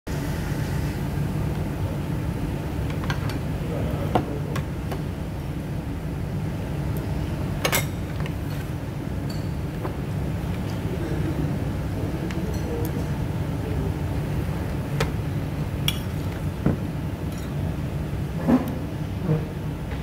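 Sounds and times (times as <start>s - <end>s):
low room rumble: 0.1s - 20.0s.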